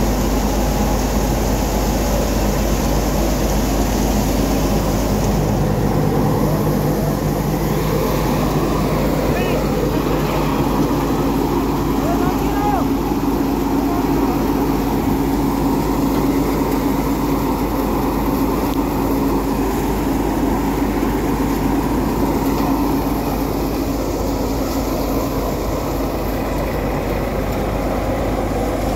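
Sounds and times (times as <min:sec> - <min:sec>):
thresher running: 0:00.0 - 0:28.9.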